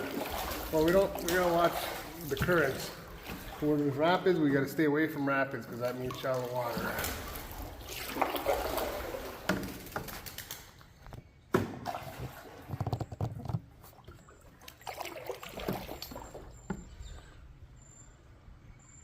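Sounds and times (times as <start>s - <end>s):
paddles splashing in water: 0.0s - 10.6s, 11.6s - 17.3s.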